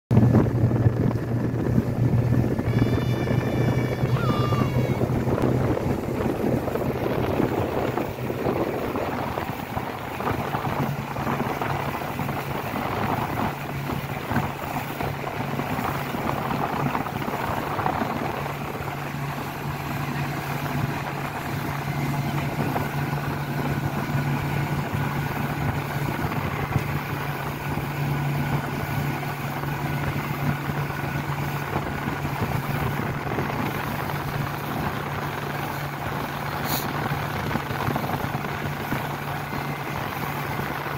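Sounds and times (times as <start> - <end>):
outboard motor running: 0.1 - 40.9
water splashing along hull: 0.1 - 40.9.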